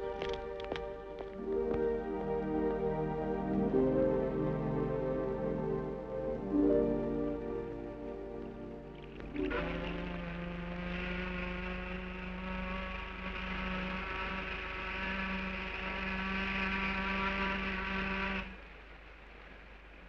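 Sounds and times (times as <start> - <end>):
ship's horn blast: 0.0 - 18.6
low hum: 0.0 - 20.0.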